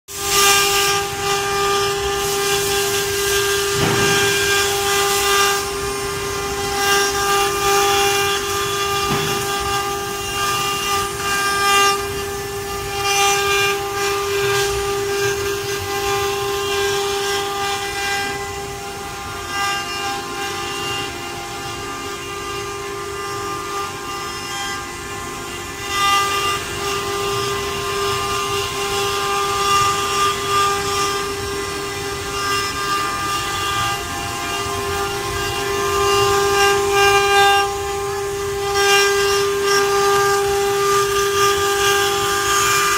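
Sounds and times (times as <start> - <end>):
router spindle whine: 0.1 - 42.9.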